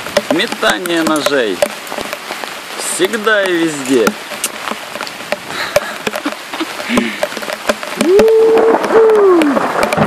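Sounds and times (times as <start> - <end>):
heavy rain on forest ground: 0.0 - 10.0.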